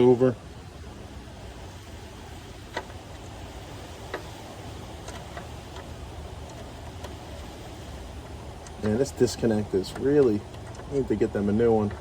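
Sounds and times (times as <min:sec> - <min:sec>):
air conditioner condenser hum: 0:00.0 - 0:12.0.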